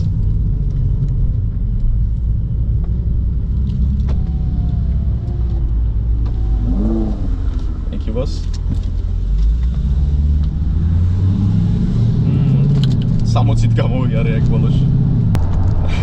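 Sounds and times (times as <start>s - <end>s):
car engine drone: 0.0s - 16.0s
road rumble: 0.0s - 16.0s.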